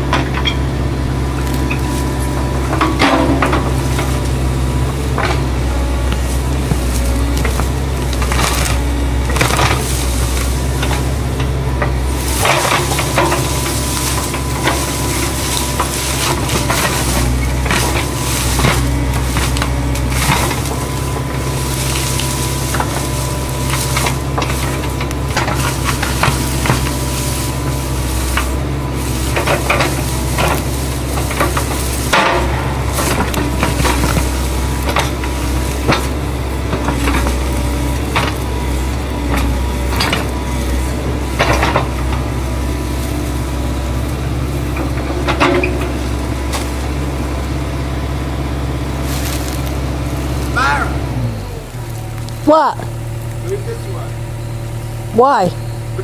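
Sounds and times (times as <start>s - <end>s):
roots crunching and cracking: 0.0s - 55.1s
diesel engine running: 0.0s - 56.0s
bucket scraping through dirt: 1.4s - 52.1s.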